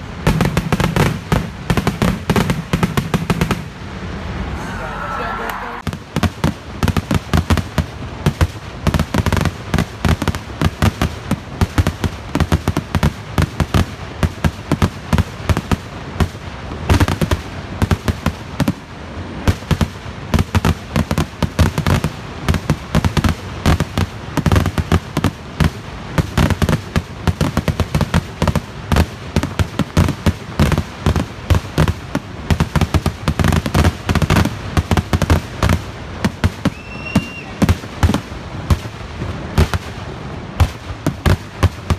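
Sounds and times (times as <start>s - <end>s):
fireworks bangs and crackling: 0.0s - 4.6s, 5.6s - 41.9s.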